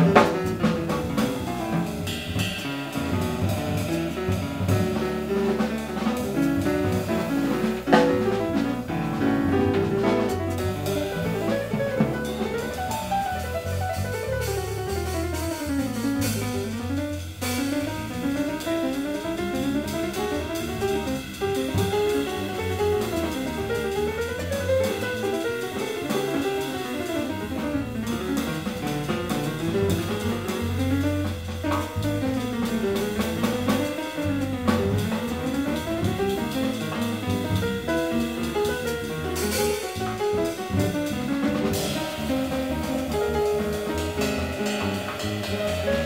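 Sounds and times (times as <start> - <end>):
acoustic piano: 0.0 - 46.0
double bass: 0.0 - 46.0
drum kit with cymbals: 0.0 - 46.0.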